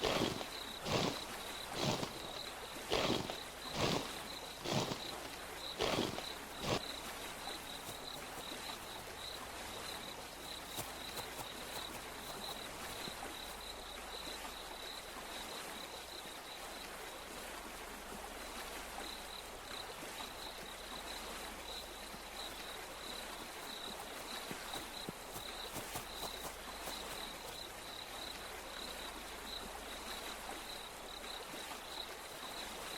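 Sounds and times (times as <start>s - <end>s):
insect chirping: 0.0s - 17.2s, 19.0s - 32.9s.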